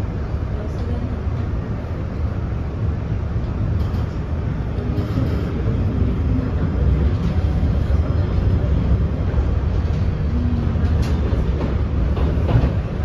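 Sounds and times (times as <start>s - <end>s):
train car rumble: 0.0s - 13.0s.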